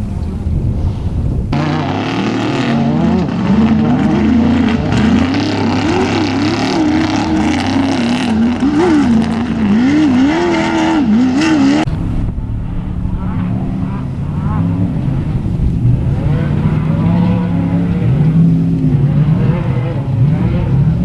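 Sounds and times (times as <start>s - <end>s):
engine revving hard: 0.7s - 21.0s.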